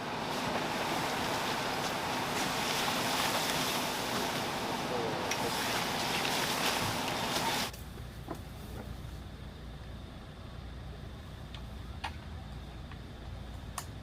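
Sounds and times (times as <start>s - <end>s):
low steady rumble: 0.0s - 14.0s
vehicle wind and road noise: 0.0s - 14.0s.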